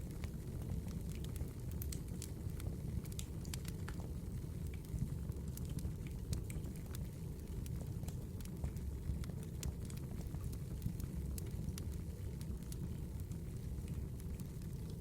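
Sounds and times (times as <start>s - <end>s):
fire crackles and pops: 0.0s - 15.0s
fire low rumble: 0.0s - 15.0s.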